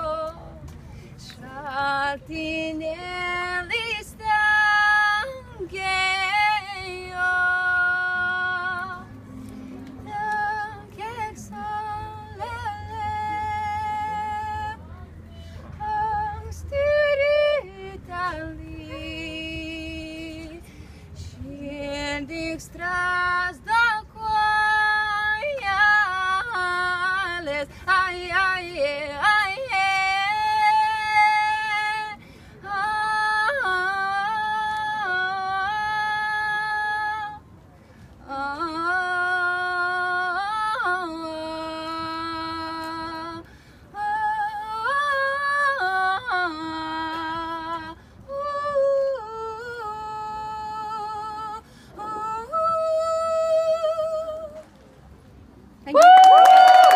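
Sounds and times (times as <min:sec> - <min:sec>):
woman singing unaccompanied: 0:00.0 - 0:09.2, 0:10.0 - 0:37.4, 0:38.2 - 0:54.7.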